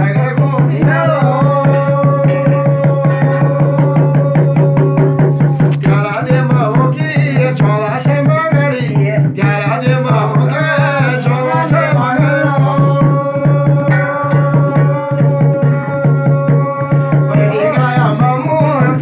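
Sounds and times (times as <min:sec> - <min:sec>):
brass plate beaten with stick: 0:00.0 - 0:19.0
drum beating: 0:00.0 - 0:19.0
man singing: 0:00.0 - 0:19.0.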